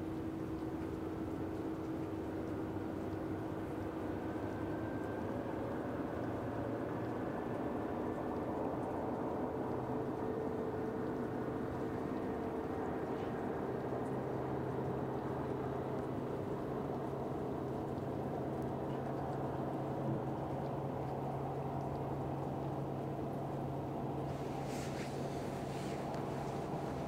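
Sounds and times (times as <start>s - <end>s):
distant machinery drone: 0.1s - 27.0s.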